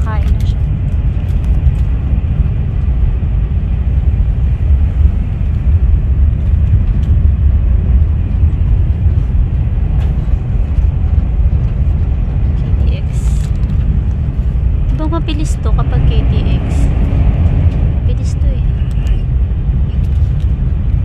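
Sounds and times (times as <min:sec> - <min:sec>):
train rumble inside cabin: 0:00.0 - 0:21.0.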